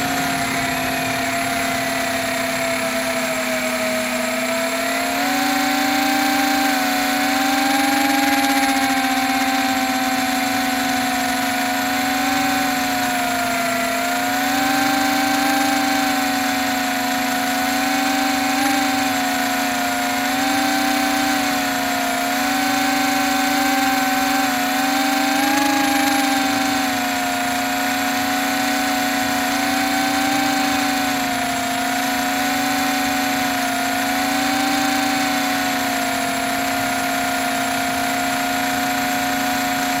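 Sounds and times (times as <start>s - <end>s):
quadcopter propellers buzzing: 0.0s - 40.0s.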